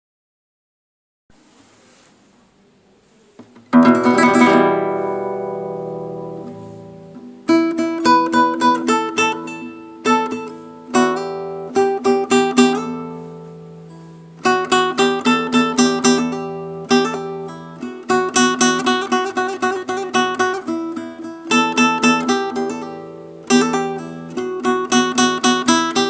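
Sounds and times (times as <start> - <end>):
plucked string instrument: 3.4 - 26.0.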